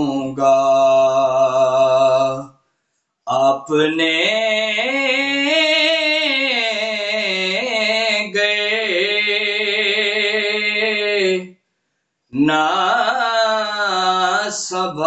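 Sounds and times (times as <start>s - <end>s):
man singing unaccompanied: 0.0s - 2.6s, 3.3s - 11.6s, 12.3s - 15.0s.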